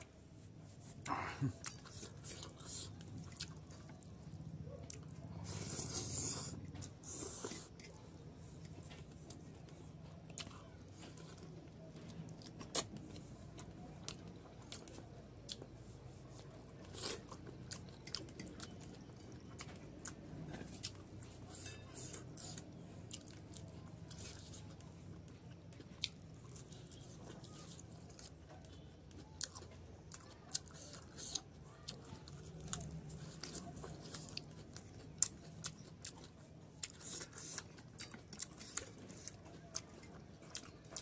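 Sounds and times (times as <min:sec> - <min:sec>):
person chewing and smacking: 0:00.9 - 0:41.0.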